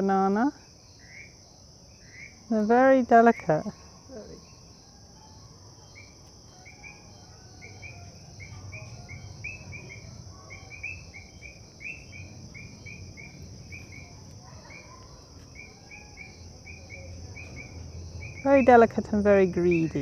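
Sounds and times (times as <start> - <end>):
insect chirps: 0.0 - 20.0
insect high-pitched trill: 0.0 - 20.0.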